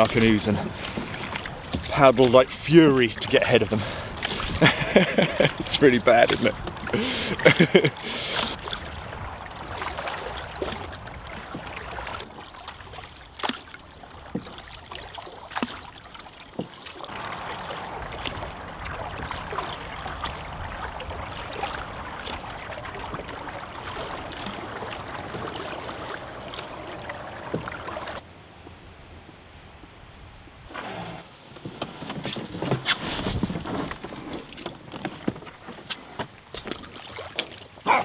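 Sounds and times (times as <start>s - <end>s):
water splashing around canoe: 0.0s - 28.3s, 30.6s - 38.0s.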